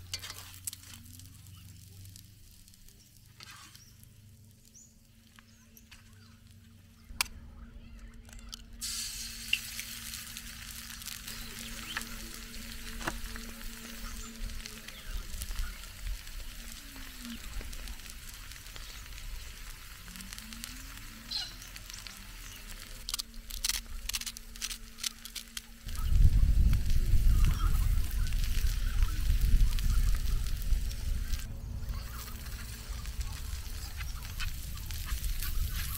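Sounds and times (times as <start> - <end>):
eggs sizzling in pan: 0.0 - 7.0, 8.4 - 35.9.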